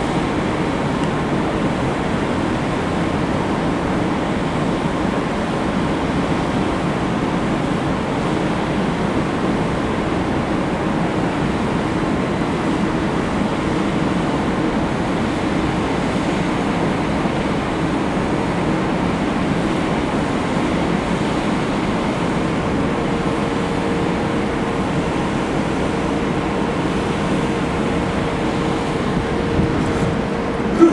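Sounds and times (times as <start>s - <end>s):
churning propeller wash: 0.0s - 30.9s
ship engines rumbling: 0.0s - 30.9s.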